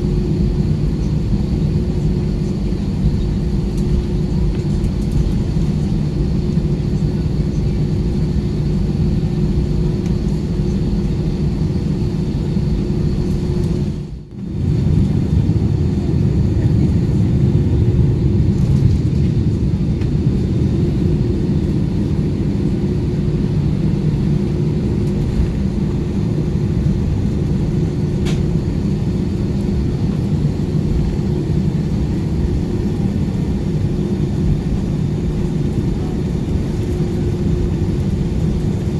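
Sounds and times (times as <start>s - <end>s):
jet engines idling rumble: 0.0s - 38.9s
steady cabin hum: 0.0s - 38.9s.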